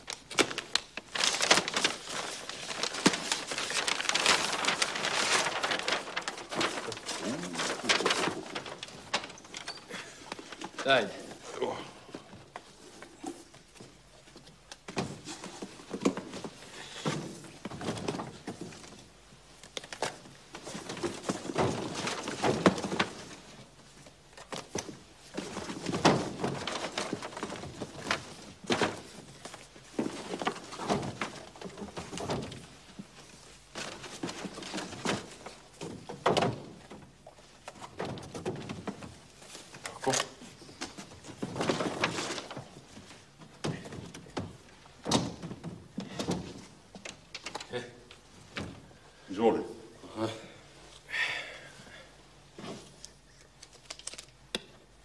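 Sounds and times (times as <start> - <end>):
paper and cardboard rustling: 0.0 - 49.6, 52.5 - 55.0.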